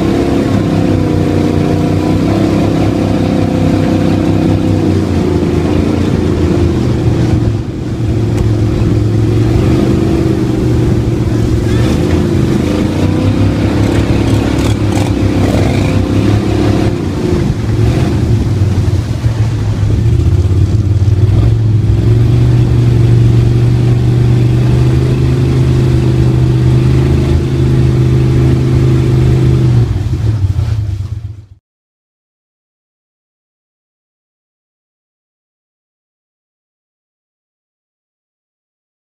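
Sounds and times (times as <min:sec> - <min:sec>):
boat motor running: 0:00.0 - 0:31.6.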